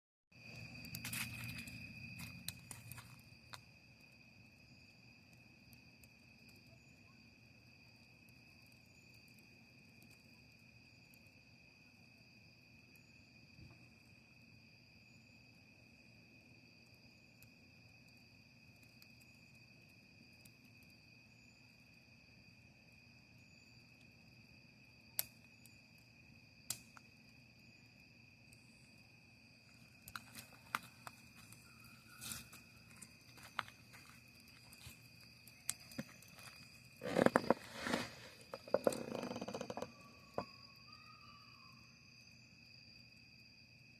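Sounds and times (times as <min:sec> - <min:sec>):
crickets trilling: 0:00.4 - 0:43.9.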